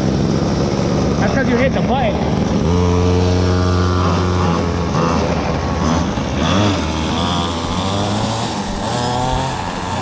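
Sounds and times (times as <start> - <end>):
small gas engine running: 0.0 - 10.0.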